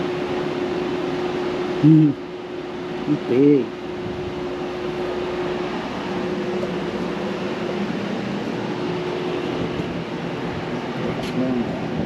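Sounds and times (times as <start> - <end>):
fan humming with constant tone: 0.0 - 12.0.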